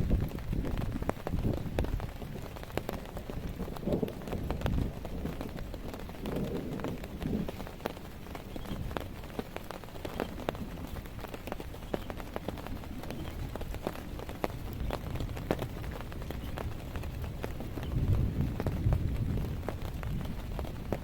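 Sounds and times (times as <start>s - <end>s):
raindrops ticking on surface: 0.0s - 21.0s
steady rainfall wash: 0.0s - 21.0s.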